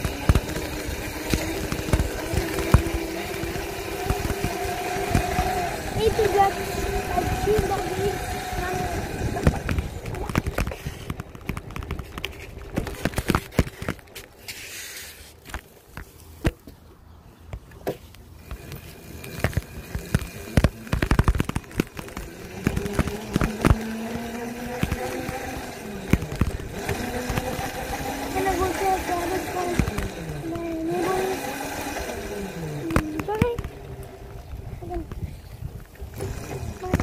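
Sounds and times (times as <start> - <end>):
plastic toy wheels rattling on concrete: 0.0 - 15.6, 18.4 - 37.0
low steady hum: 0.0 - 37.0
wheels clicking over slab joints: 0.0 - 37.0.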